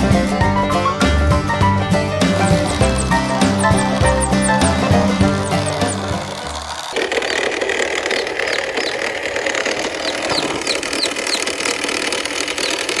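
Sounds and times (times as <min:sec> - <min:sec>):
engine-like running sound: 0:00.0 - 0:13.0.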